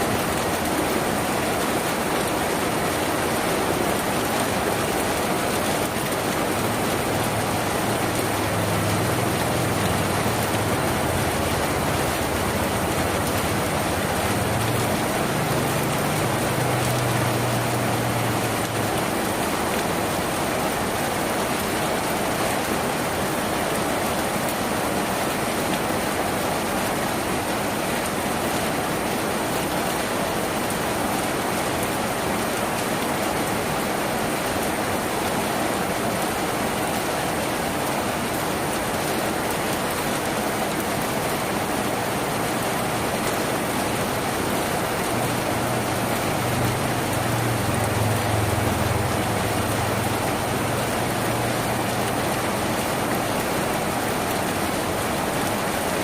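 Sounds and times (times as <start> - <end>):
rain on a tin roof: 0.0 - 56.0.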